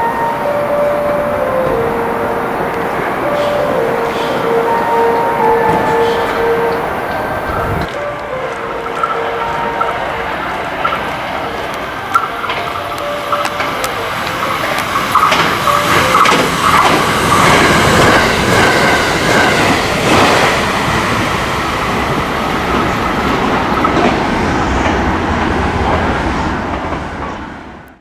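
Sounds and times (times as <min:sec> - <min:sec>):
wheels clacking over rail joints: 0:00.0 - 0:26.1
electric train passing at speed: 0:00.0 - 0:28.0.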